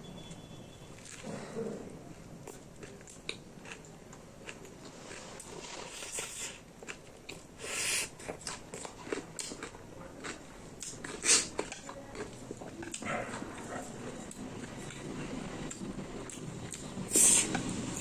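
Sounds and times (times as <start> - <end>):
chewing and biting food: 1.0 - 18.0.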